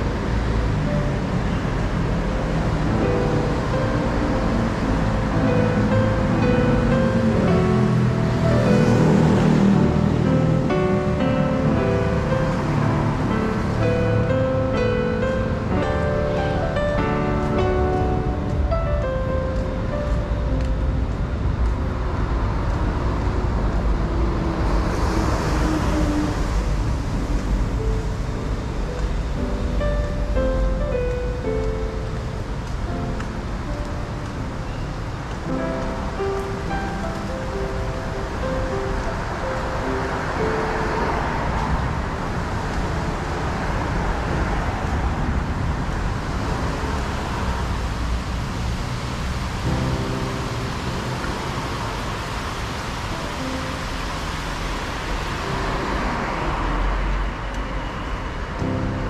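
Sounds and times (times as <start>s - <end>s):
cars driving on wet road: 0.0s - 59.0s
hiss of passing vehicles: 0.0s - 59.0s
low traffic rumble: 0.0s - 59.0s.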